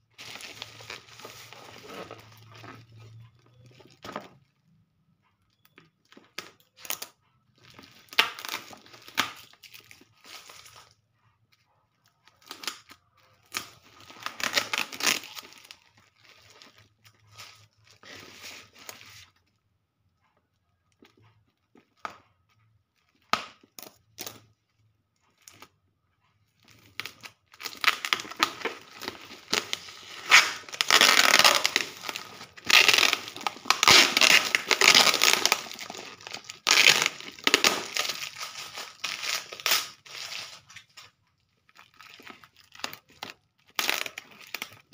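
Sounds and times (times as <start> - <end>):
plastic and tape crinkling and tearing: 0.0 - 4.6, 5.5 - 19.6, 26.4 - 44.9.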